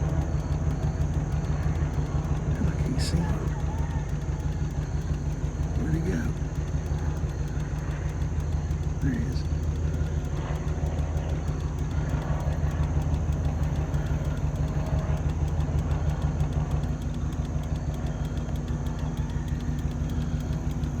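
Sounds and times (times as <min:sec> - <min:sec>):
engine idling: 0:00.0 - 0:21.0
exhaust leak ticking: 0:00.0 - 0:21.0.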